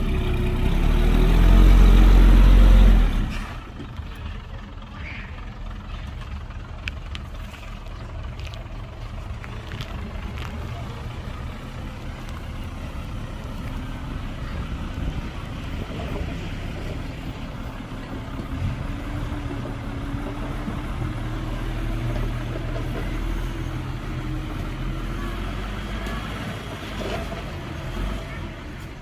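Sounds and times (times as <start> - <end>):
diesel machinery engine rumble: 0.0 - 29.0.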